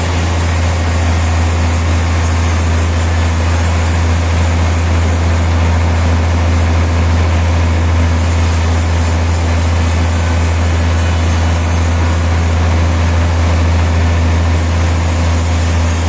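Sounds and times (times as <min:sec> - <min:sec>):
sawmill machinery droning: 0:00.0 - 0:16.0.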